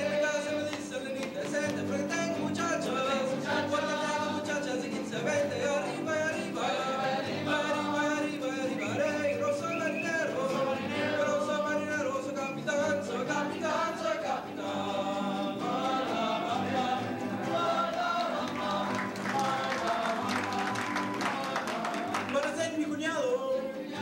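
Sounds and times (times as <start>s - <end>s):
voices singing together: 0.0s - 22.6s, 23.2s - 24.0s
guitars: 0.0s - 24.0s.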